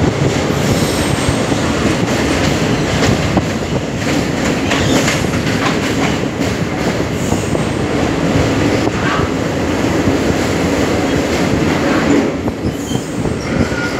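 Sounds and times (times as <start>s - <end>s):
clickety-clack of train wheels: 0.0s - 13.9s
train wheels rumbling on rails: 0.0s - 13.9s.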